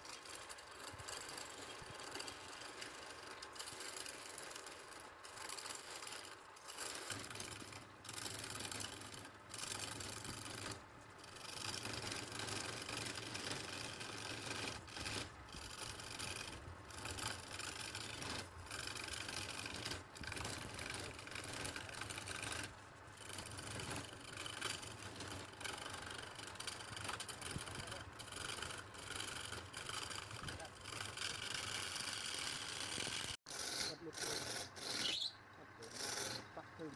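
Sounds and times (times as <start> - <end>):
turning tool scraping wood: 0.0 - 36.9
lathe motor hum: 0.1 - 36.9.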